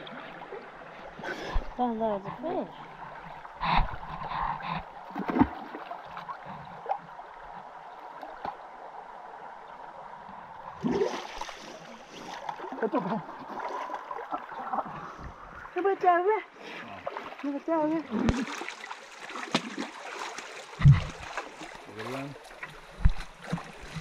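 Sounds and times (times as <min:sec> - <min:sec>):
running water: 0:00.0 - 0:24.0
water splashing and sloshing: 0:00.0 - 0:24.0.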